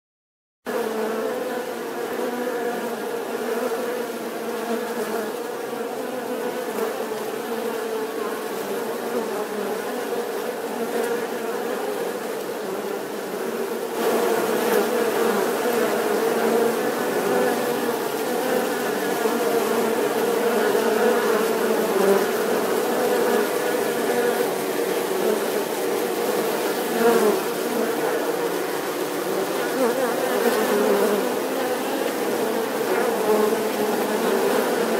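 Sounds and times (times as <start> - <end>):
honeybees buzzing: 0.7 - 34.9.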